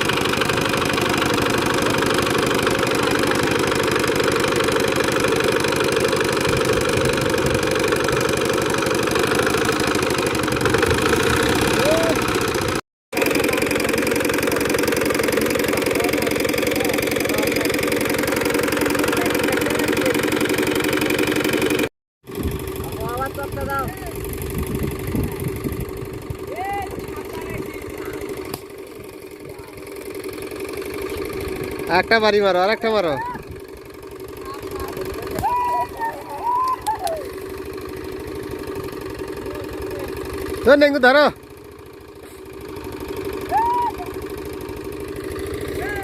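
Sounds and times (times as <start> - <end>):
engine running with knocking: 0.0 - 46.0.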